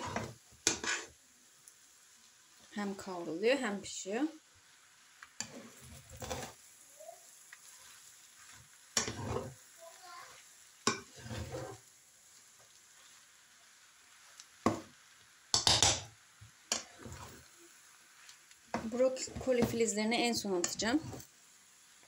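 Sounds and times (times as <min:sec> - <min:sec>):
spatula scraping and tossing noodles: 0:00.0 - 0:01.2, 0:04.7 - 0:21.6
faint sizzle: 0:00.0 - 0:22.0.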